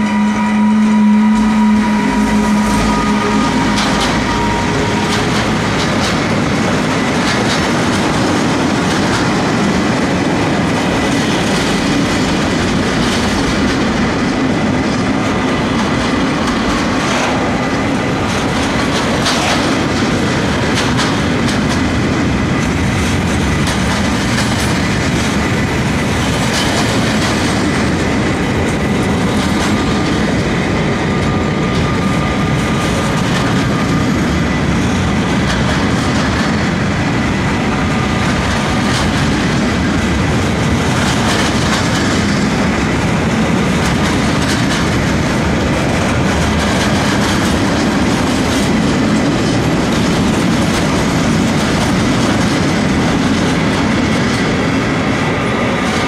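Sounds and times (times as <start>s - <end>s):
freight wagons rumbling: 0.0s - 56.0s
locomotive hum: 0.0s - 56.0s
wheels clicking over rail joints: 1.4s - 55.1s.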